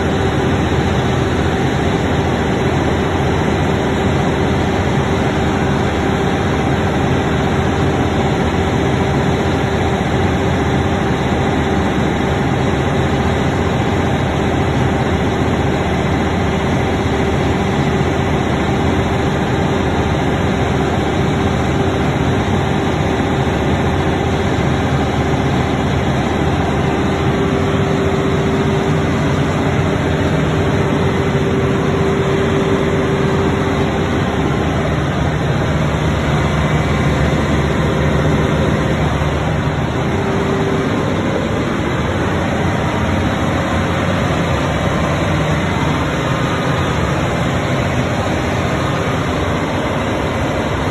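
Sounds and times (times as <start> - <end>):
diesel generator droning: 0.0 - 50.9.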